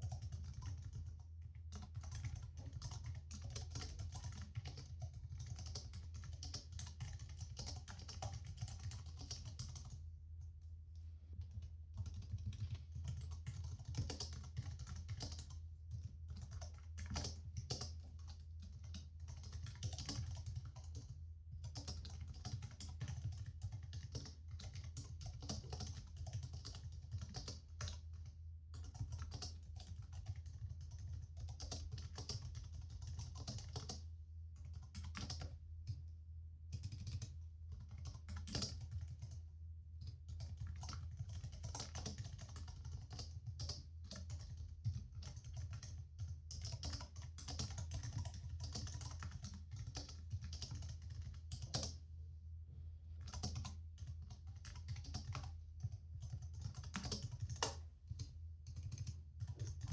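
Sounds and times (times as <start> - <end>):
typing on computer keyboard: 0.0 - 10.0, 11.4 - 34.0, 34.6 - 36.0, 36.7 - 39.4, 40.0 - 52.0, 53.2 - 59.9.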